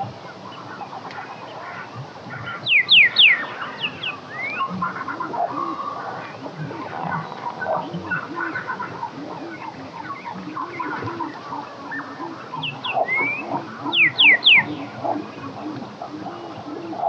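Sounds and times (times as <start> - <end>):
chorus of animal calls: 0.0 - 17.0.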